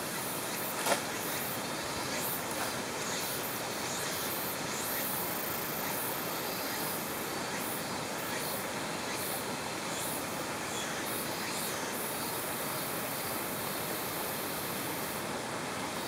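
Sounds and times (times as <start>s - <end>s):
stream water running over rocks: 0.0s - 16.0s.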